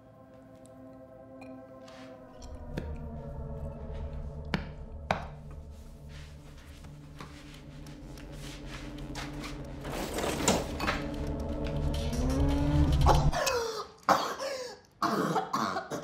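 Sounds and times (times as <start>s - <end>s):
low steady drone: 0.0s - 13.4s.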